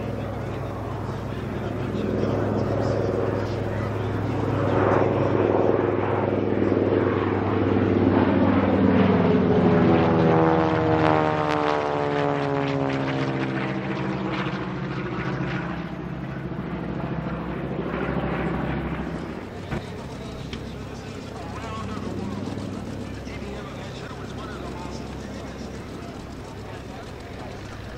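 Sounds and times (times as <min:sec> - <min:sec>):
propeller aircraft flyby: 0:00.0 - 0:27.9.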